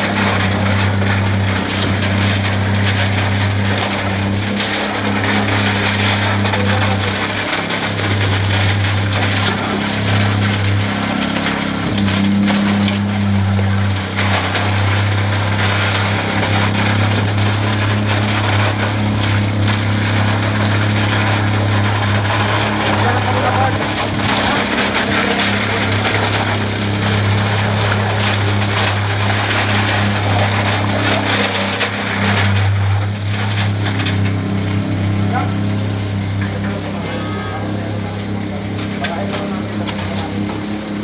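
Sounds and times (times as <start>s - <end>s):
pump engine droning: 0.0s - 41.0s
wet concrete splattering: 0.0s - 41.0s.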